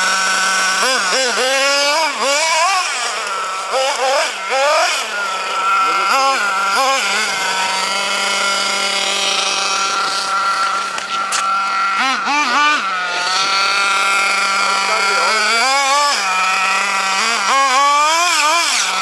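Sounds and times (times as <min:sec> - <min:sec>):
small nitro engine revving: 0:00.0 - 0:19.0.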